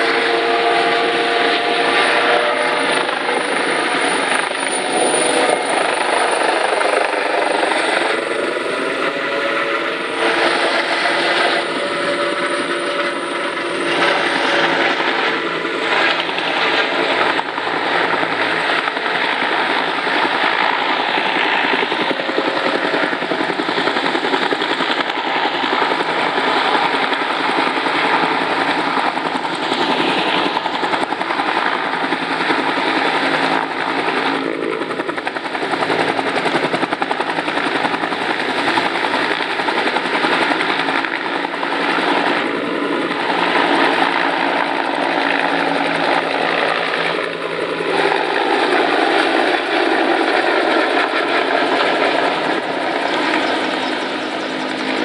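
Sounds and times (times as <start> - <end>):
helicopter passing overhead: 0.0 - 55.0
helicopter rotor and turbine whine: 0.0 - 55.0.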